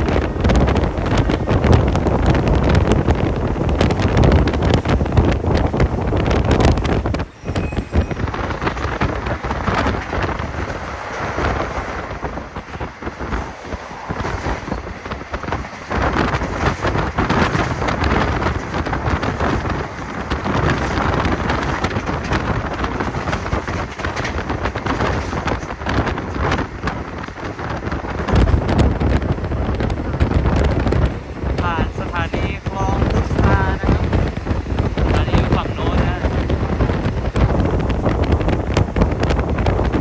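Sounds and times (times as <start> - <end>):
train carriage rumbling and clattering: 0.0 - 40.0
wind buffeting microphone: 0.0 - 40.0.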